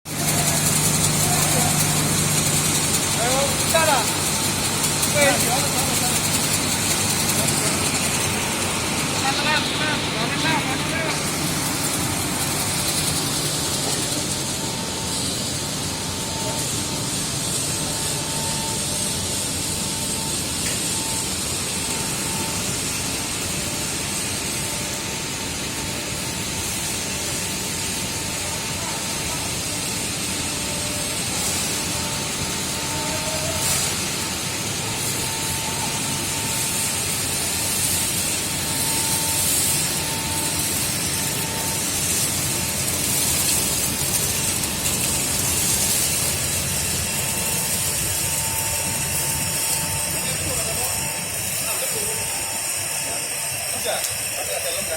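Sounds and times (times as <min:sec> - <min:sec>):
hiss: 0:00.1 - 0:54.9
machine running steadily: 0:00.1 - 0:54.9.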